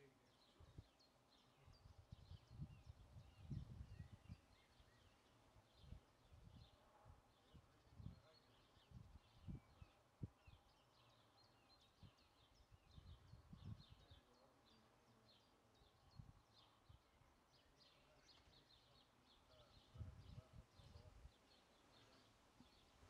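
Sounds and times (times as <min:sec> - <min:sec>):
distant songbirds chirping: 0:00.0 - 0:23.0.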